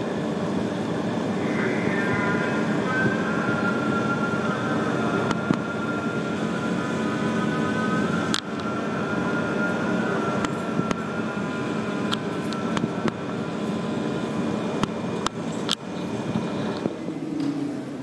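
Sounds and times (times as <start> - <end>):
faint steady whine: 0.0 - 18.0
traffic and machinery hum: 0.0 - 18.0.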